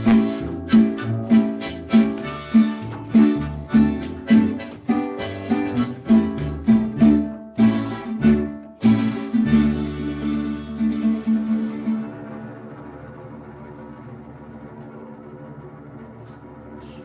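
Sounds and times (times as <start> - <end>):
acoustic guitar strumming: 0.0 - 13.8.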